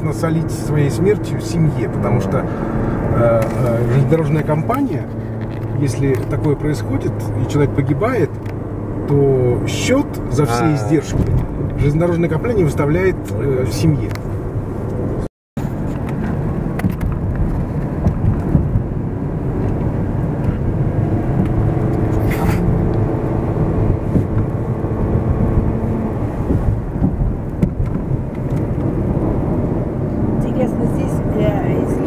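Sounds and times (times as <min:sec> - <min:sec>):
car engine and tyres on wet road: 0:00.0 - 0:32.0.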